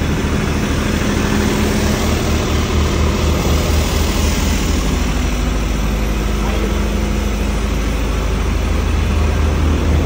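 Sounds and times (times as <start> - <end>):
diesel generator humming: 0.0 - 10.0.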